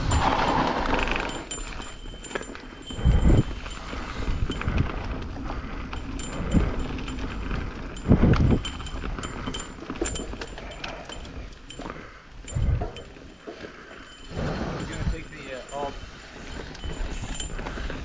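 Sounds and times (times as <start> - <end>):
bike rattles and clicks: 0.0 - 18.0.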